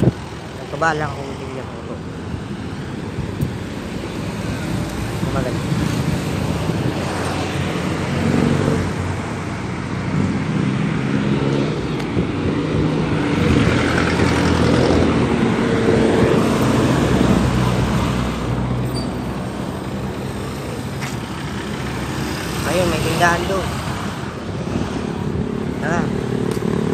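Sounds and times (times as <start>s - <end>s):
passing vehicle engines: 0.0s - 26.9s.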